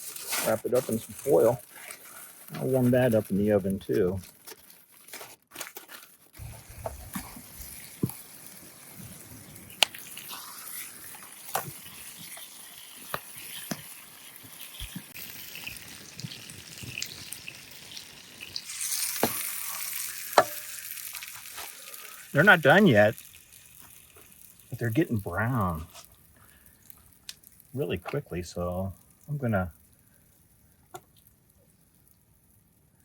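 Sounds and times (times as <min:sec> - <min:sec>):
meatballs sizzling: 0:00.0 - 0:05.5, 0:06.2 - 0:33.0
sharp pops and crackles: 0:00.0 - 0:32.6.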